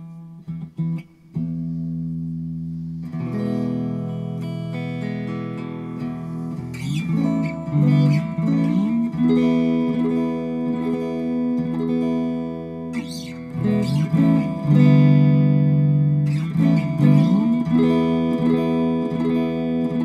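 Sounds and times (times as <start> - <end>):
electric guitar strummed chords: 0.0 - 20.0.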